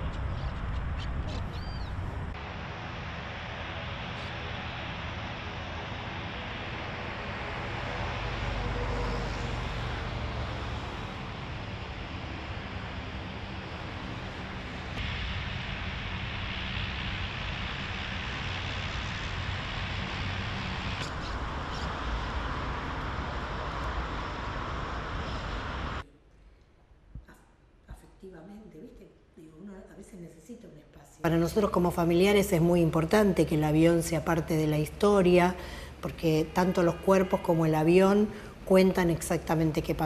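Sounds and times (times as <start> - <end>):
airplane engines droning: 0.0 - 26.1, 31.3 - 40.0.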